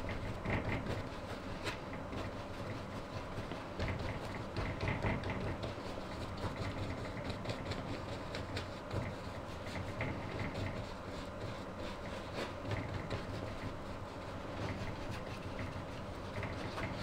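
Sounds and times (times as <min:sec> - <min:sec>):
brush scrubbing on canvas: 0:00.0 - 0:17.0
steady low hum: 0:00.0 - 0:17.0.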